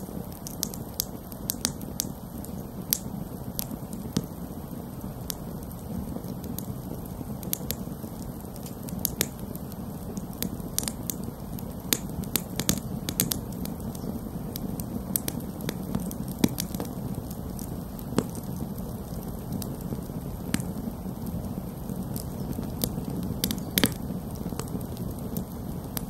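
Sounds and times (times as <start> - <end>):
burning wood crackling and popping: 0.0 - 26.0
low rush of flame: 0.0 - 26.0.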